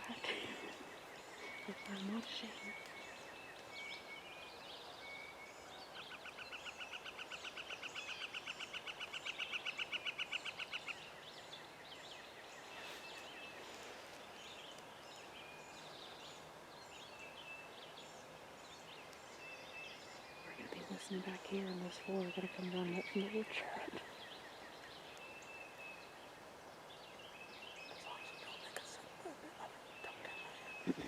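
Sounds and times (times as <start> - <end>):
birds chirping and calling: 0.0 - 5.2, 5.8 - 26.4, 27.0 - 31.0.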